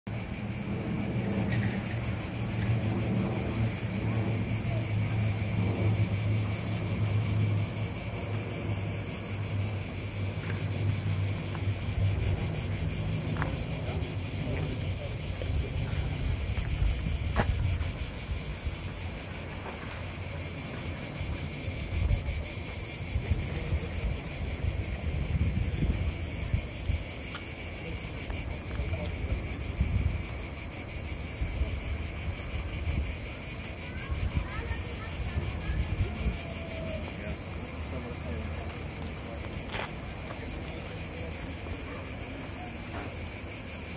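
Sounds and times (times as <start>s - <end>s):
cicadas buzzing: 0.1s - 43.9s.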